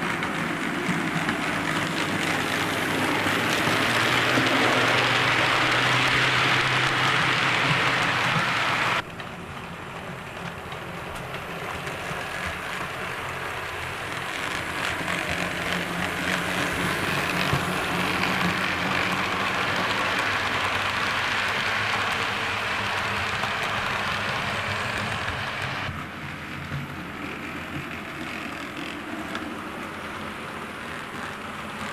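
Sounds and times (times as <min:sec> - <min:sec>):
wheels rumbling on rail: 0:00.0 - 0:31.9.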